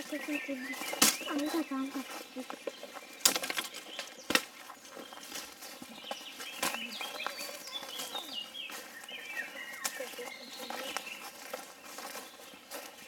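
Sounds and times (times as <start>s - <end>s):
high chirping animal calls: 0.0s - 12.5s.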